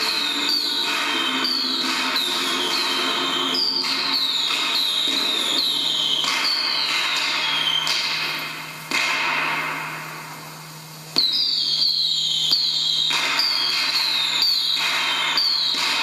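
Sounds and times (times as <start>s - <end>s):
fireworks whistles and crackling: 0.0s - 16.0s.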